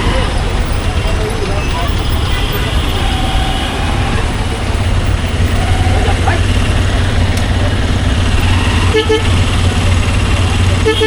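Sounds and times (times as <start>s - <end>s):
road and wind noise: 0.0s - 11.0s
motorcycle engine running: 0.2s - 11.0s.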